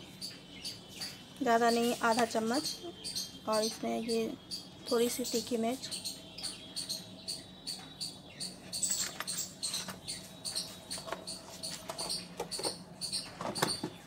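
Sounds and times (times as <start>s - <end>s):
small animal chirping: 0.1s - 14.0s.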